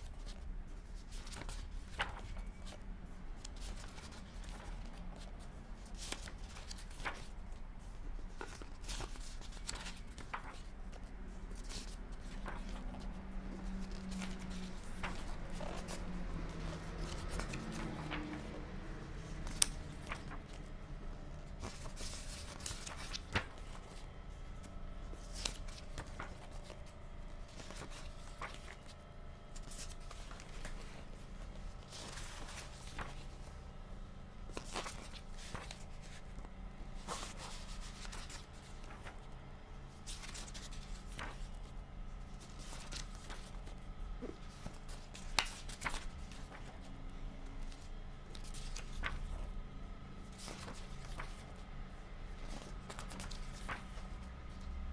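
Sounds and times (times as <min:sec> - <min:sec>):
book pages turning: 0:00.0 - 0:54.9
faint hum: 0:00.0 - 0:54.9.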